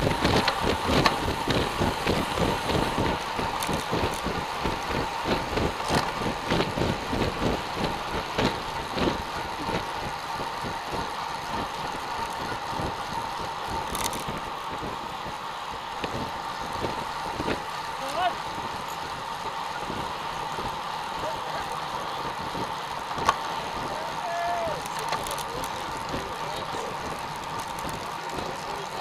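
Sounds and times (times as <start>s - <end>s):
road and tyre noise: 0.0s - 29.0s
wind buffeting microphone: 0.0s - 29.0s.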